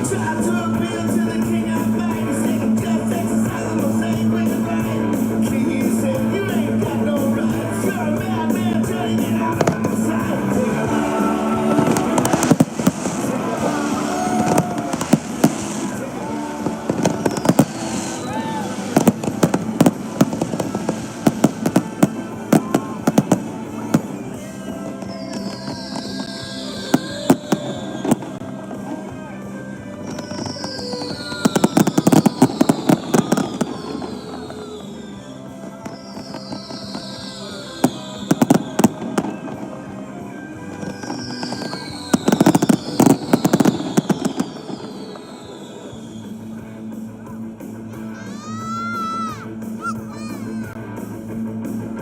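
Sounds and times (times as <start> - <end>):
fireworks bangs: 0.0 - 46.8
music playing: 0.0 - 52.0.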